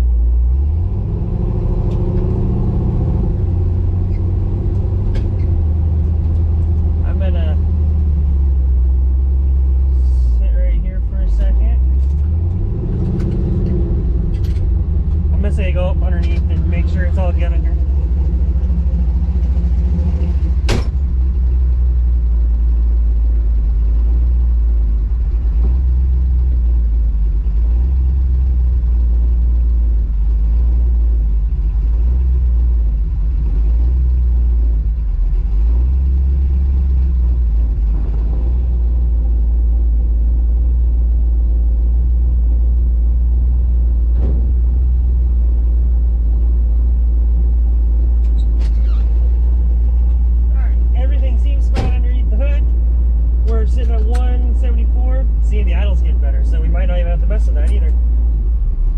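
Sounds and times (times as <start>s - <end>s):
car engine exhaust rumble: 0.0s - 58.9s.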